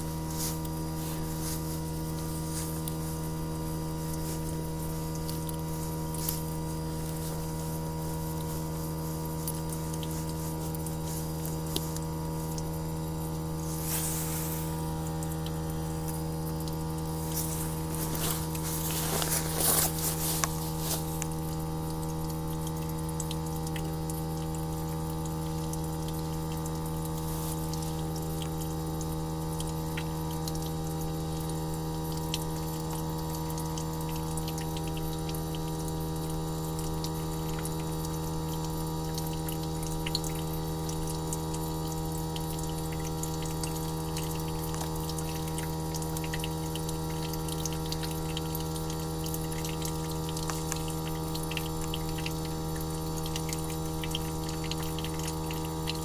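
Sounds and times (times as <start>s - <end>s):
heat pump hum: 0.0s - 56.0s
water trickling and dripping: 0.0s - 56.0s.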